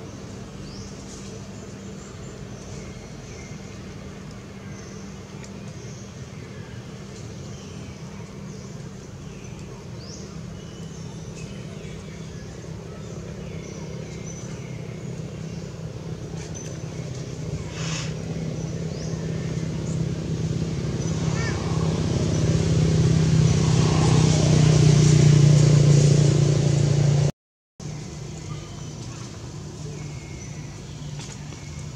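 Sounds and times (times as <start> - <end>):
steady engine hum: 0.0 - 31.9.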